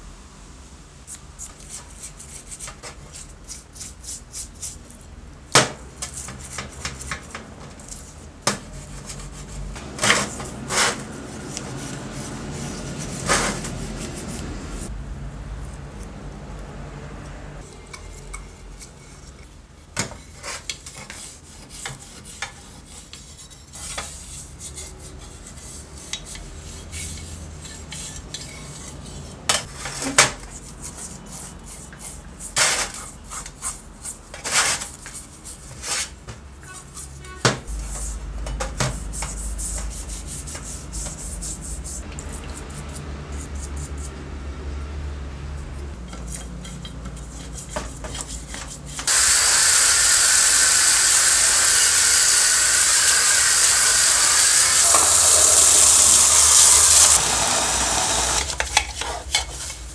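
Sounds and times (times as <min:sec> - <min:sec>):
brush scrubbing metal parts: 0:06.0 - 0:14.9, 0:17.7 - 0:44.2, 0:45.9 - 0:59.9.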